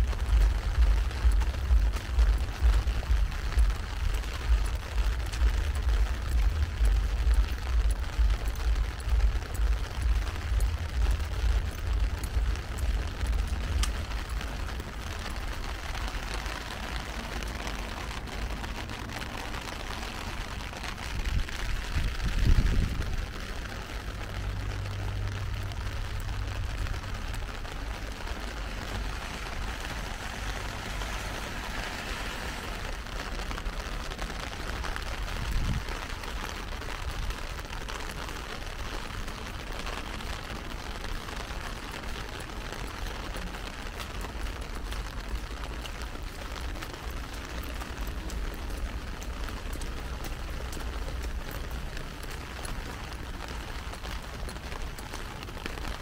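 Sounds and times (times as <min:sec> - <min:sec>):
heavy rain falling: 0:00.0 - 0:56.0
low rumbling: 0:00.0 - 0:56.0.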